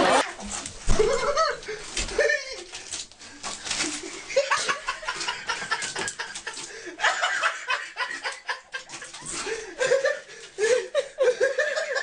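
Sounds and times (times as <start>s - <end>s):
person laughing: 1.0s - 2.8s, 3.9s - 12.0s.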